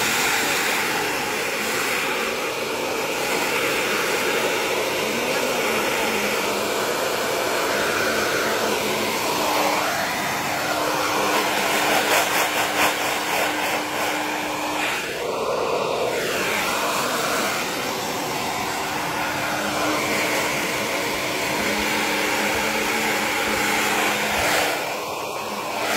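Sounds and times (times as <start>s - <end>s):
hair dryer running: 0.0s - 25.9s.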